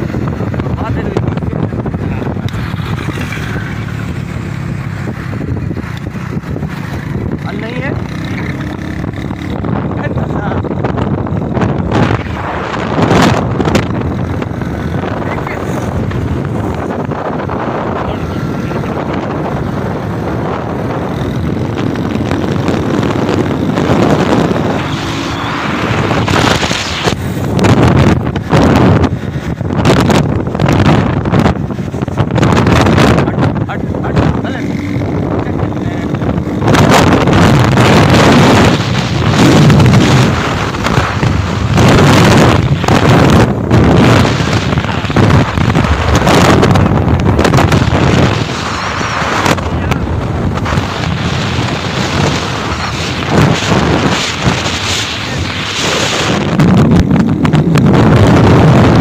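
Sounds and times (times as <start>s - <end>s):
motorcycle engine drone: 0.0s - 59.0s
wind buffeting microphone: 0.0s - 59.0s.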